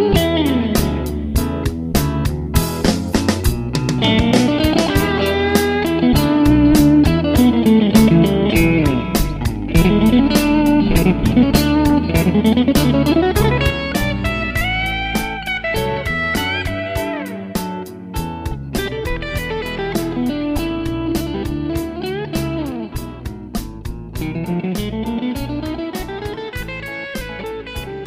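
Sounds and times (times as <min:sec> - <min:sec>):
electric guitar with bending notes: 0:00.0 - 0:28.0
steady beat: 0:00.0 - 0:28.0.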